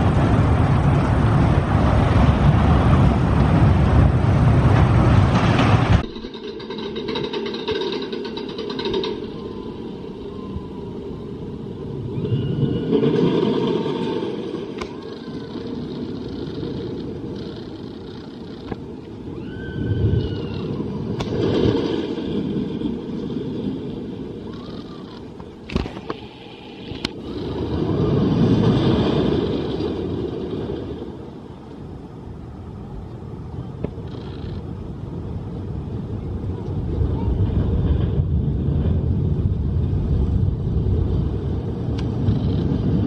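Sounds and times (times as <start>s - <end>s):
roller coaster rumbling on track: 0.0s - 43.0s.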